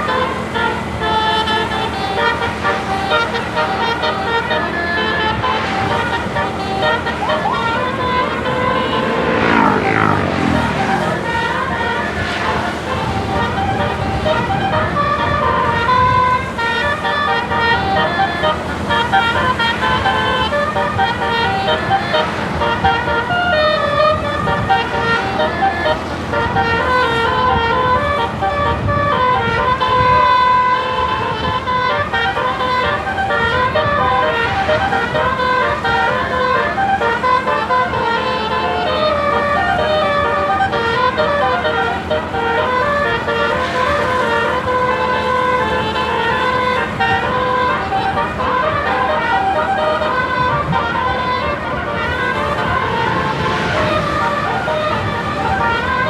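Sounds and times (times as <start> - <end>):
bus engine rumble: 0.0 - 56.0
bus horn playing a tune: 0.0 - 56.0.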